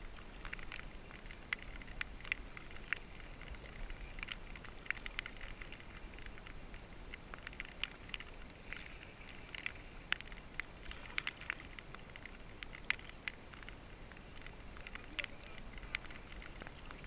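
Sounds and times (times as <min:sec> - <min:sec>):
water drops pattering: 0:00.0 - 0:17.0
wind rumble on microphone: 0:00.0 - 0:17.0.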